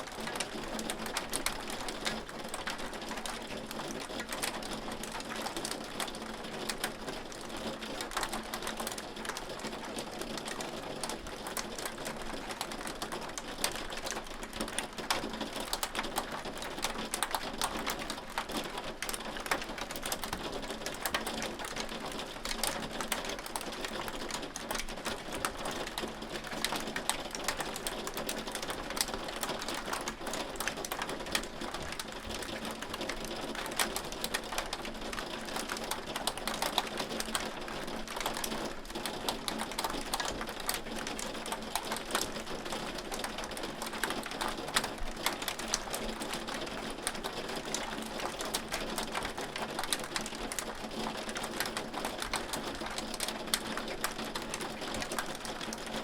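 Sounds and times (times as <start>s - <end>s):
hail on a hard surface: 0.1s - 56.0s.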